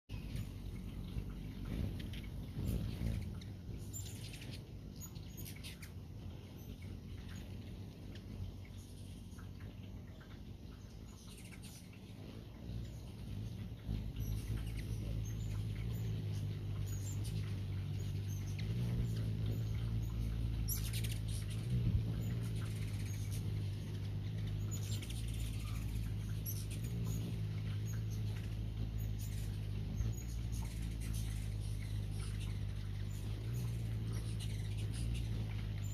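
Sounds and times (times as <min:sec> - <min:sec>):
high-pitched bird chips and twitters: 0:00.1 - 0:35.9
hummingbird wings humming: 0:00.1 - 0:35.9.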